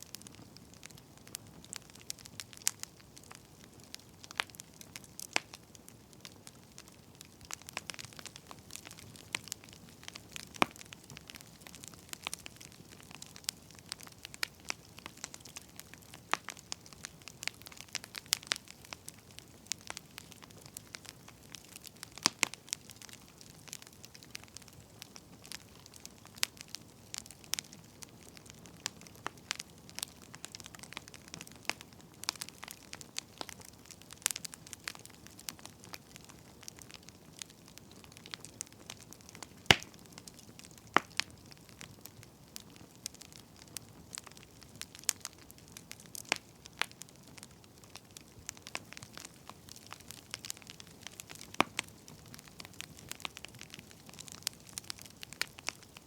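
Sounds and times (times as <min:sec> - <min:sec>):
firewood crackling and popping: 0:00.0 - 0:56.0.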